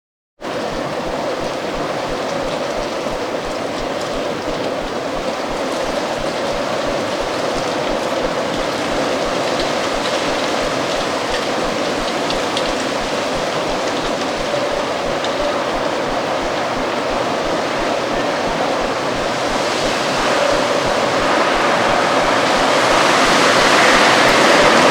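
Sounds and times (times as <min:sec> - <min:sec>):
strong wind blowing: 0:00.4 - 0:24.9.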